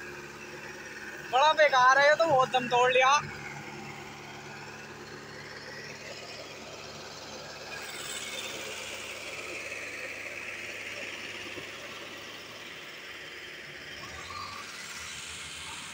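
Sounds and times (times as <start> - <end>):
tractor diesel engine under load: 0.0 - 15.9.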